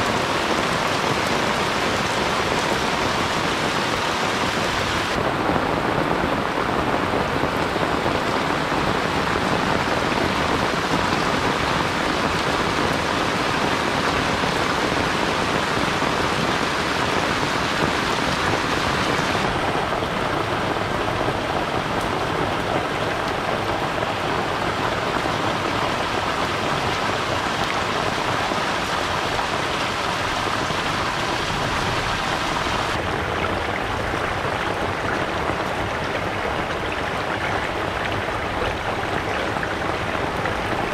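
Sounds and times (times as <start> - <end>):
heavy rain on roof tiles: 0.0 - 40.9
water pouring from eaves: 0.0 - 40.9
water running in drainage channel: 6.4 - 40.9.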